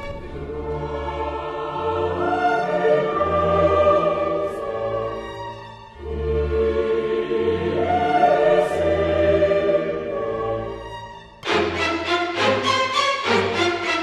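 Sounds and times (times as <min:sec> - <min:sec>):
choir-like chords: 0:00.0 - 0:14.0.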